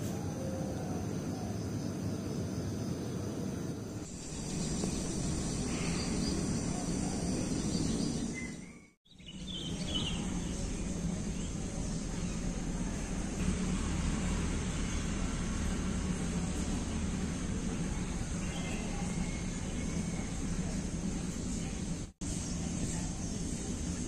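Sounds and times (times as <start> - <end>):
low outdoor rumble: 0.6 - 24.0.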